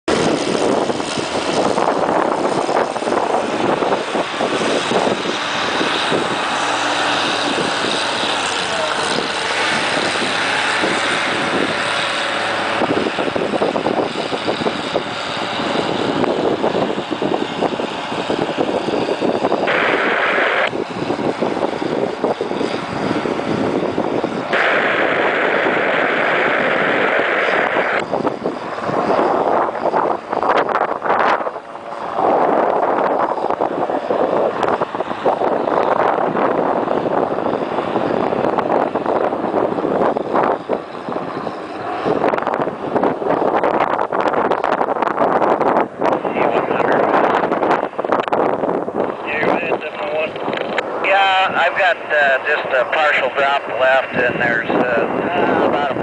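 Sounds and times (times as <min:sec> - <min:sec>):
helicopter rotor and engine roar: 0:00.0 - 0:56.0.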